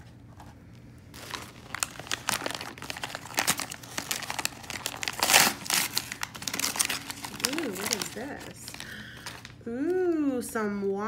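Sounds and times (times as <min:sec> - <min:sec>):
wrapping paper crinkling: 0:00.0 - 0:10.5.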